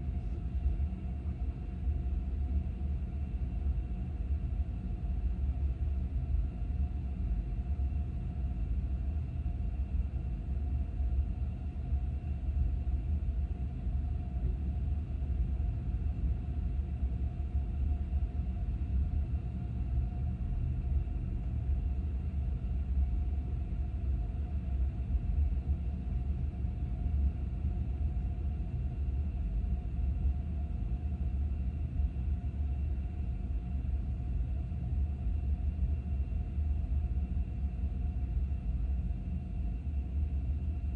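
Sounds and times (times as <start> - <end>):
faint constant hum: 0.0 - 40.9.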